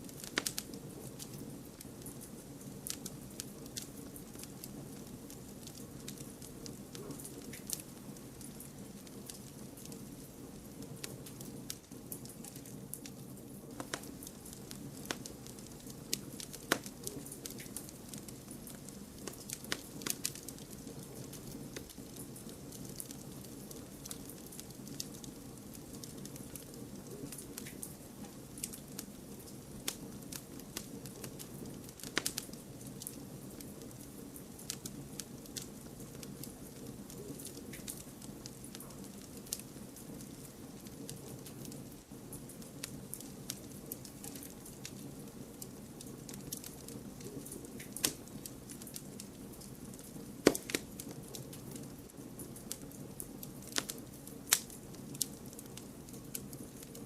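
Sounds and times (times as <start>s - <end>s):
campfire crackling and popping: 0.0s - 57.0s
low fire hiss: 0.0s - 57.0s.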